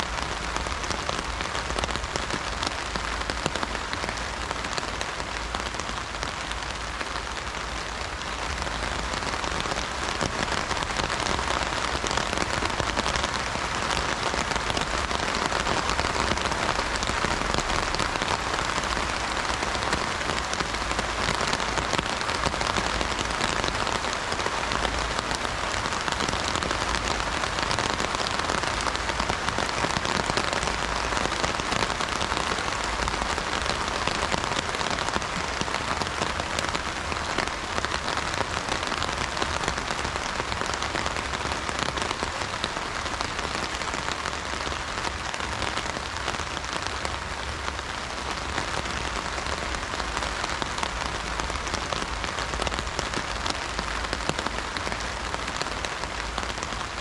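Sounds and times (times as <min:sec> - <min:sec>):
heavy rain on an umbrella: 0:00.0 - 0:57.0.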